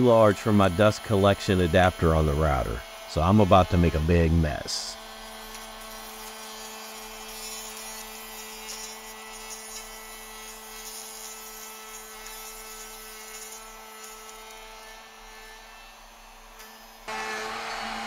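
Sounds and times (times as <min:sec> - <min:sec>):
router cutting wood: 0:00.0 - 0:18.0.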